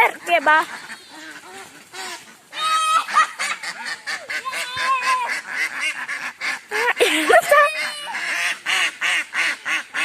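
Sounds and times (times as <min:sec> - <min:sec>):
ducks quacking: 0:00.0 - 0:10.0.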